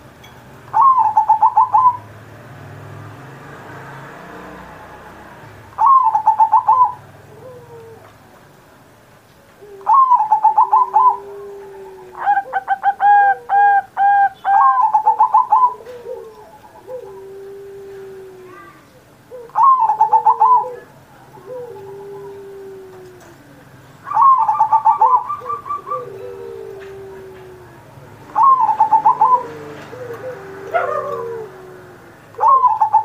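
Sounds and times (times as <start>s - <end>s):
dove cooing: 0.7s - 2.1s, 5.8s - 8.4s, 9.5s - 33.0s.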